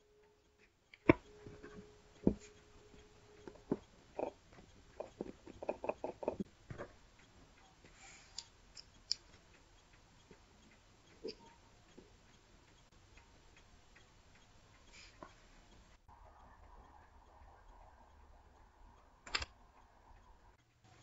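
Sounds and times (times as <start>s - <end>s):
battery cells tapping and clicking: 0.4s - 15.9s, 18.6s - 21.0s.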